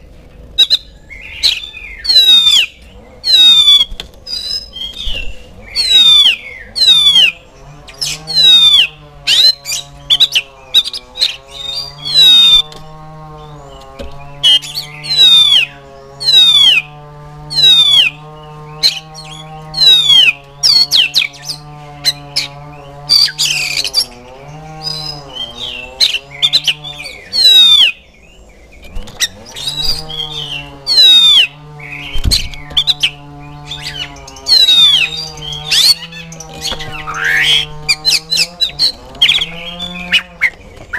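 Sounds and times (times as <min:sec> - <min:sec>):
bird calling with whistled notes: 0:00.0 - 0:40.9
low wavering drone: 0:00.0 - 0:40.9.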